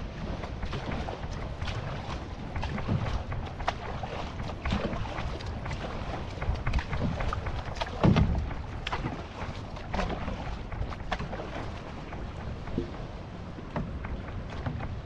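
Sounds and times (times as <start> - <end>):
water splashing around a canoe: 0.0 - 15.0
wind buffeting microphone: 0.0 - 15.0.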